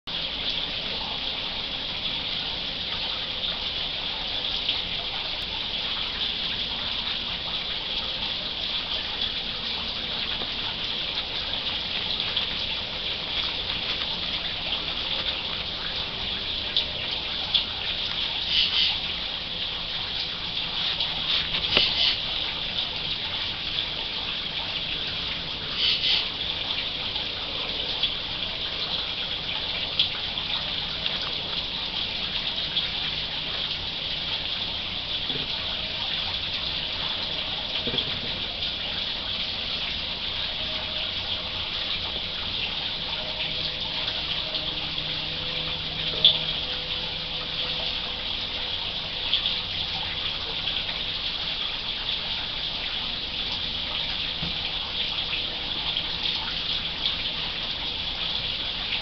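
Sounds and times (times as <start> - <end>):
steady high hiss: 0.2 - 59.0.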